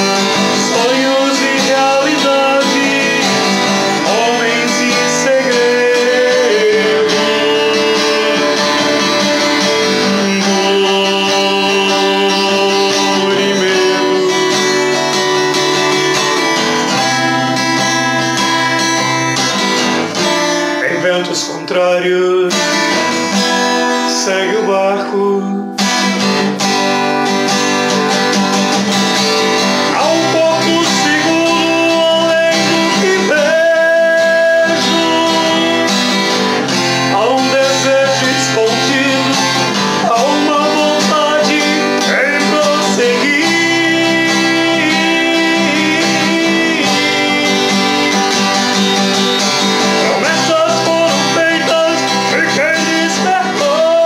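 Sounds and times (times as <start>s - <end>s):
man singing: 0.0s - 26.2s, 28.6s - 54.0s
acoustic guitar strumming chords: 0.0s - 54.0s.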